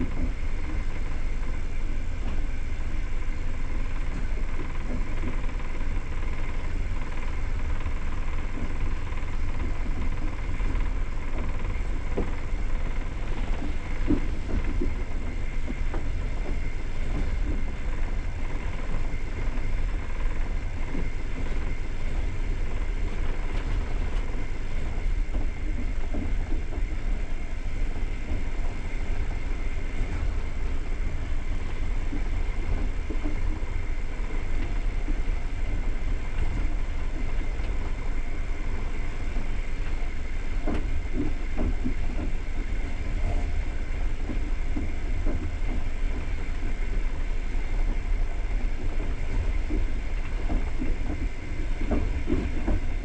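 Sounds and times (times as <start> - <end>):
faint steady whine: 0.0 - 53.0
train wheels rumbling on rails: 0.0 - 53.0.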